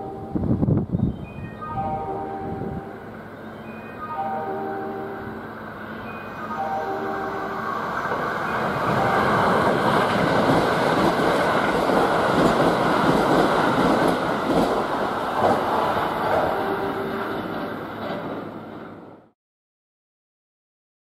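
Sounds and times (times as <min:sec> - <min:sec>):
express train passing at speed: 0:00.0 - 0:19.4.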